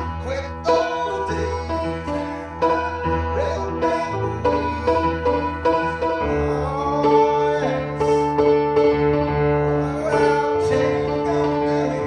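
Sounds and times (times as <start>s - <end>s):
piano music sustained chords: 0.0s - 12.0s.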